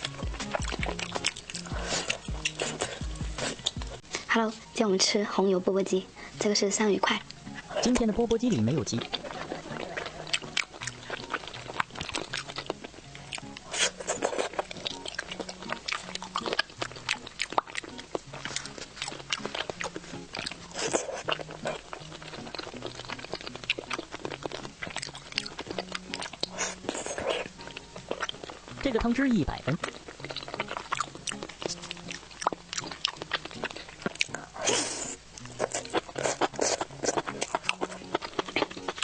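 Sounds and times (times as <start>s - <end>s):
chewing and biting food: 0.0s - 4.2s, 7.2s - 39.0s
soft background music: 0.0s - 39.0s.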